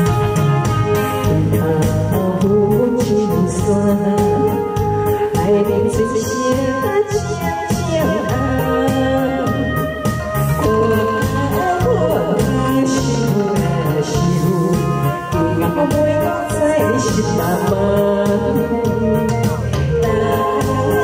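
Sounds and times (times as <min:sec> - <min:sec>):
amplified backing music with beat: 0:00.0 - 0:21.0
woman singing into a microphone: 0:00.0 - 0:21.0.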